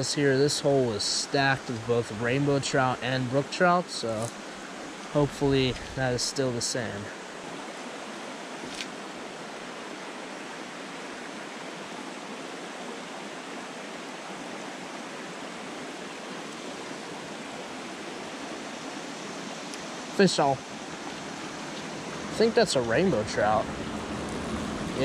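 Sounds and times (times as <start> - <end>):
stream running over rocks: 0.0 - 25.0.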